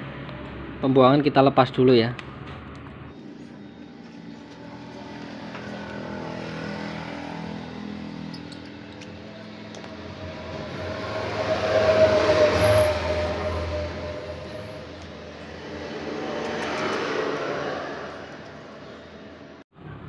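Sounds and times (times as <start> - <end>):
vehicle engine passing: 2.2 - 20.0.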